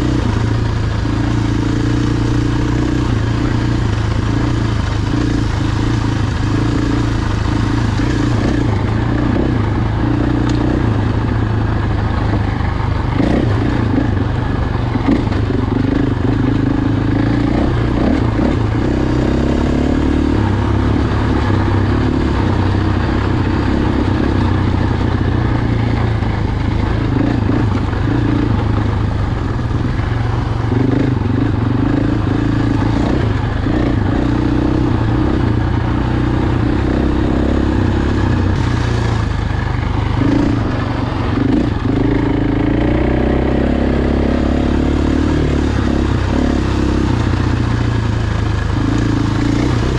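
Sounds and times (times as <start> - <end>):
motocross bike engine: 0.0 - 49.9.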